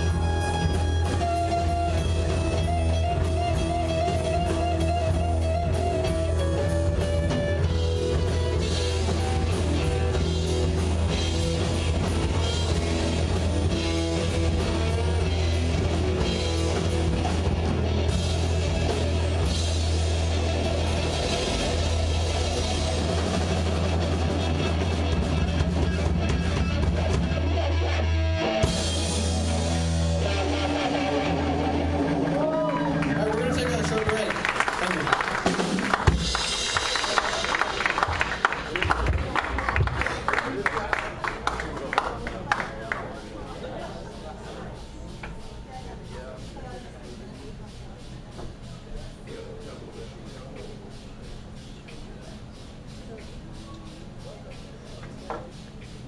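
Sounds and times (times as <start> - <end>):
rock band playing: 0.0 - 49.6.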